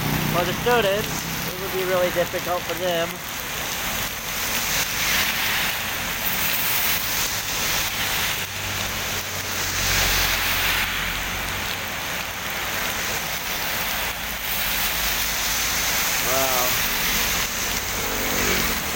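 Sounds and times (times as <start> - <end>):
heavy rain hissing: 0.0 - 18.9.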